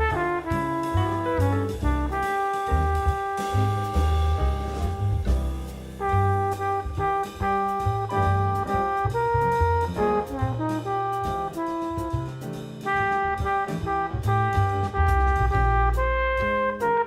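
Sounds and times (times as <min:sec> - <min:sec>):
brass horn melody: 0:00.0 - 0:17.0
drums: 0:00.0 - 0:17.0
walking bass line: 0:00.0 - 0:17.0.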